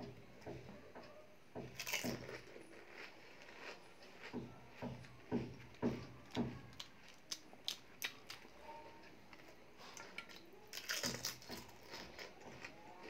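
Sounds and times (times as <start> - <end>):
person chewing: 1.7 - 8.6, 9.3 - 13.0.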